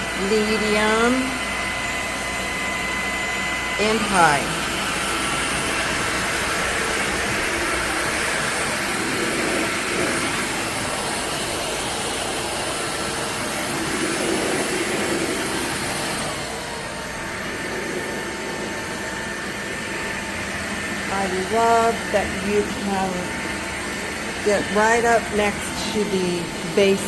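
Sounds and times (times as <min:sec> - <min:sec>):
vacuum cleaner motor whining: 0:00.0 - 0:27.0.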